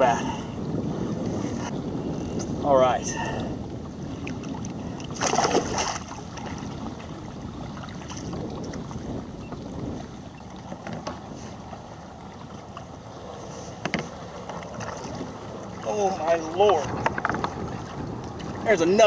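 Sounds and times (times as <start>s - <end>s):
water noise around kayak: 0.0s - 19.0s
wind: 0.0s - 19.0s.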